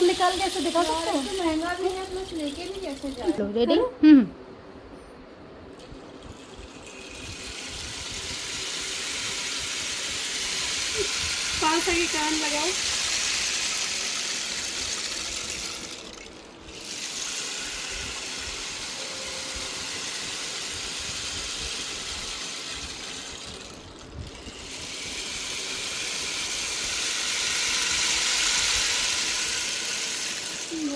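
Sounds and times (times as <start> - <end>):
rain stick pattering: 0.0 - 3.4, 5.8 - 30.9.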